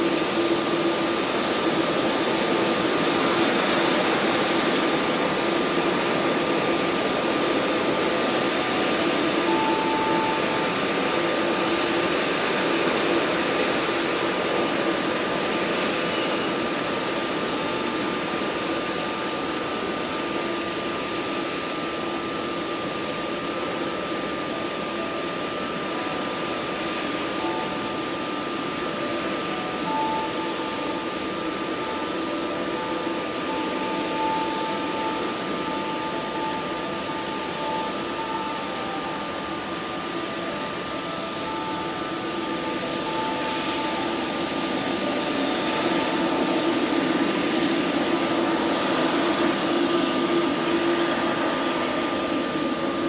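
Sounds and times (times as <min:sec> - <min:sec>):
jet engines running: 0:00.0 - 0:53.0.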